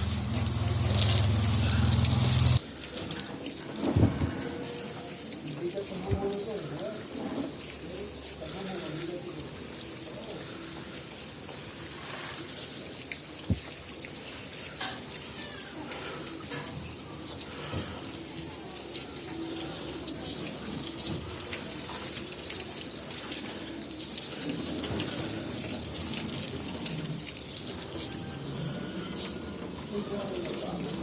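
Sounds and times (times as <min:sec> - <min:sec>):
water running and splashing: 0:00.0 - 0:31.0.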